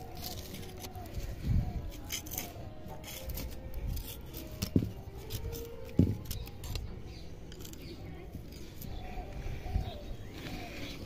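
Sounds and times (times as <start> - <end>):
tool scraping dry soil: 0.0 - 11.0.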